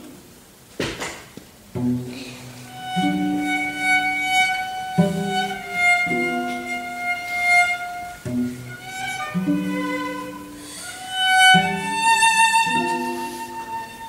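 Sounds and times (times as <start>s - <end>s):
cello ensemble playing: 1.7s - 14.0s.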